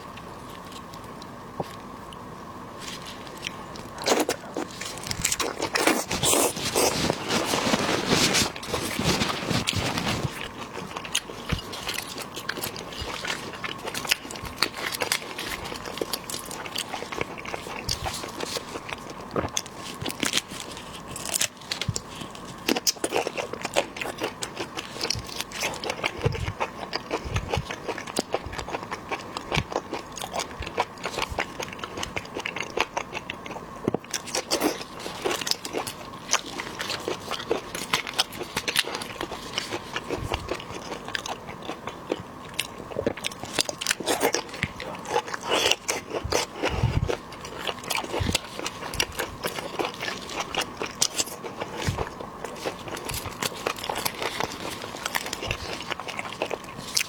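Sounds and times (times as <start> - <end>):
wet biting and chewing: 2.9 - 57.0.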